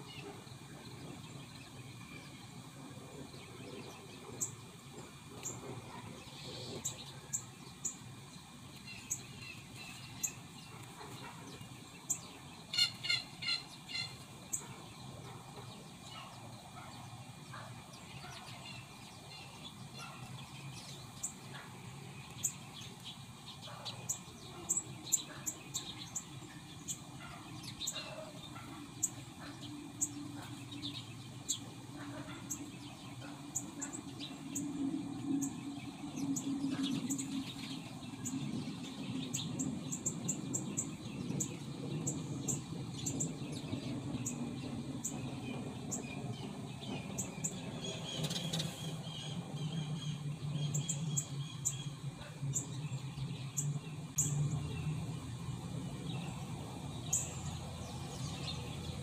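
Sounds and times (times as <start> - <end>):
birds chirping: 0.0 - 59.0
low steady rumble: 0.0 - 59.0.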